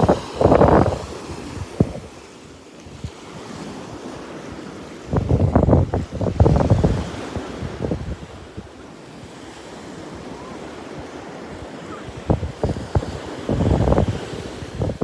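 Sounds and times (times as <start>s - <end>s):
wind buffeting microphone: 0.0s - 2.2s, 2.9s - 8.7s, 10.1s - 15.0s
surf washing onto beach: 0.0s - 15.0s.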